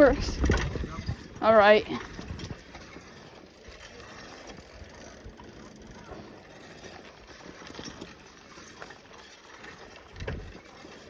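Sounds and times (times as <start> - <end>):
bicycle rustling on dirt trail: 0.0 - 11.0
light ticks from bicycle: 0.0 - 11.0.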